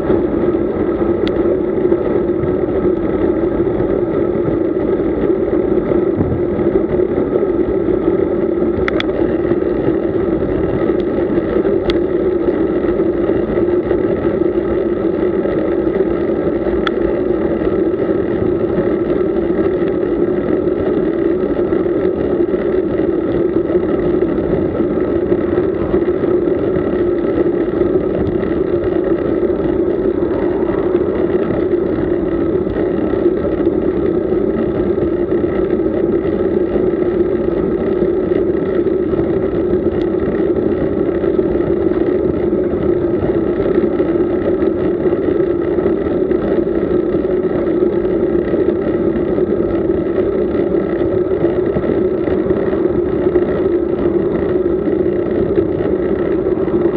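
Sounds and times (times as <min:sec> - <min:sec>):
road noise from bicycle: 0:00.0 - 0:56.9
wind noise: 0:00.0 - 0:56.9.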